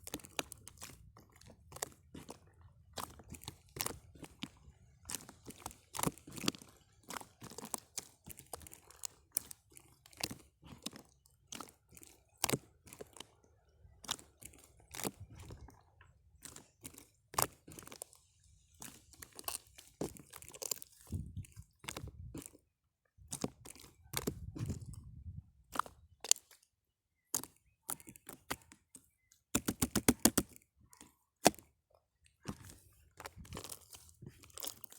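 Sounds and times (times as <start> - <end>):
crunching and sharp clicking: 0.0 - 34.9.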